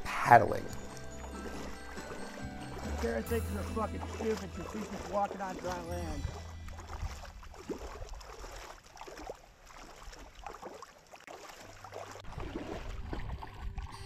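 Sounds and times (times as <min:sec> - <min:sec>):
people wading through shallow water: 0:00.0 - 0:14.0.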